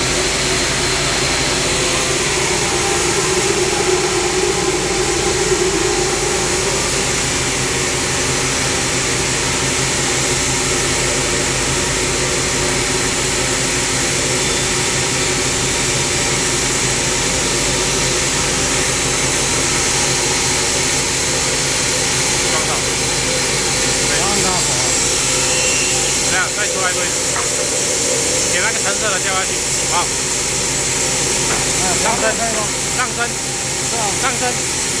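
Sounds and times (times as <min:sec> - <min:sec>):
midrange whine: 0:00.0 - 0:35.0.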